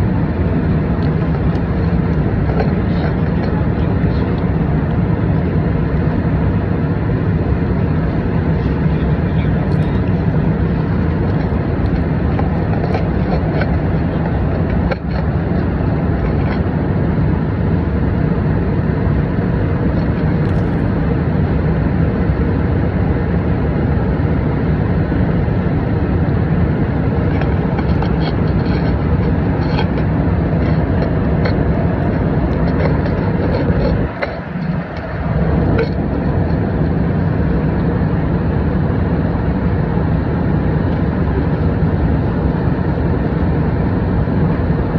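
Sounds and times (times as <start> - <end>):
airliner cabin engine noise: 0.0 - 44.9.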